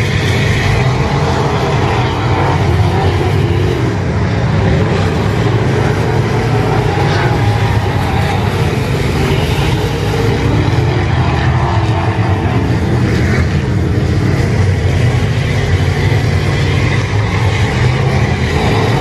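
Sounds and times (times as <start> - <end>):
race car engines: 0.0 - 19.0.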